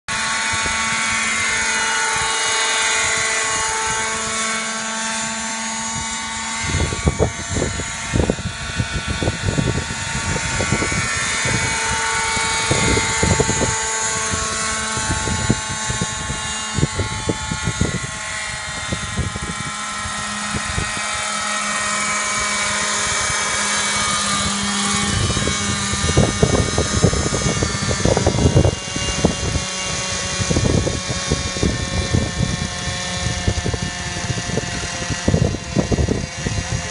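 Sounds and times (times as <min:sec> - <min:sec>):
helicopter engine and rotor: 0:00.1 - 0:36.9.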